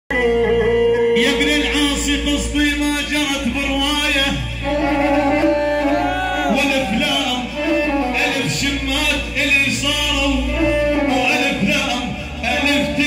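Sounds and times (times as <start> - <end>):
instrumental accompaniment: 0.1 - 13.0
man singing into microphone: 0.1 - 13.0.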